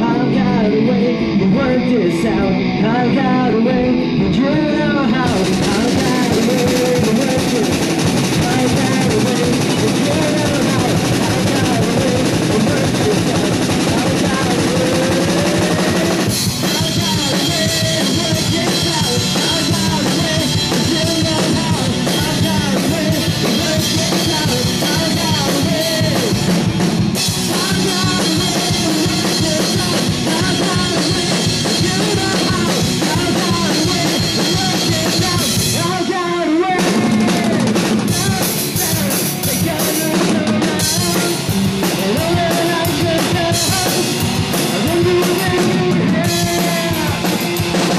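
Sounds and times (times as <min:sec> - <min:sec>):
rock band playing: 0:00.0 - 0:47.9
drums beating: 0:04.6 - 0:47.9.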